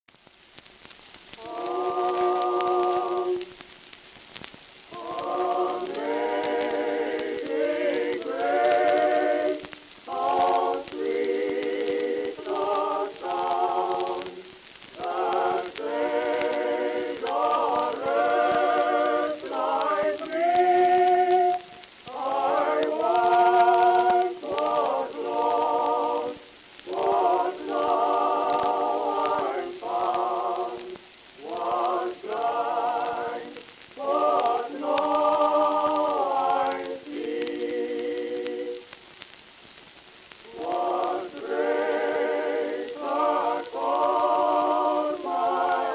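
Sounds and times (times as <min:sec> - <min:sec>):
voices singing in harmony: 0:01.3 - 0:03.6, 0:04.9 - 0:39.0, 0:40.4 - 0:45.9.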